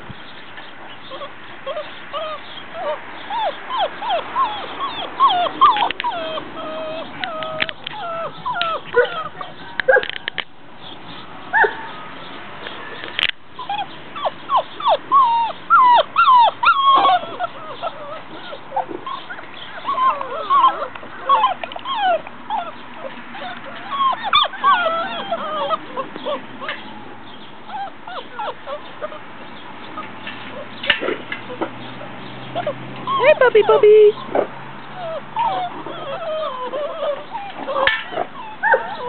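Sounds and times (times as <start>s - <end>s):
puppies whining: 1.0s - 10.4s, 13.6s - 39.0s.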